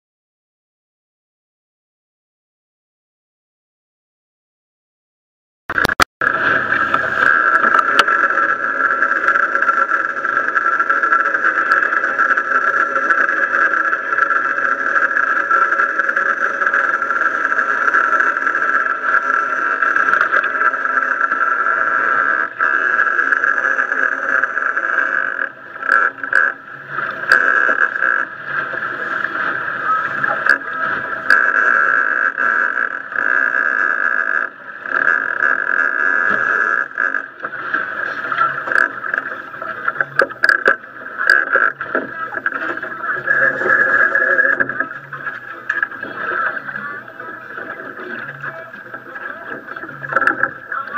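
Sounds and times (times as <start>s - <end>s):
boat engine running: 5.7s - 50.9s
water against hull: 5.7s - 50.9s
wind: 5.7s - 50.9s.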